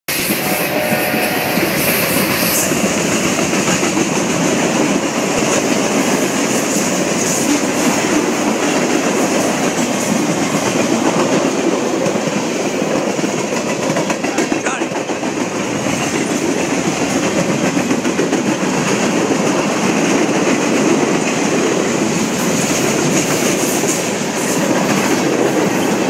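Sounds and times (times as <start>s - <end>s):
steel wheels running on rails: 0.1s - 26.0s.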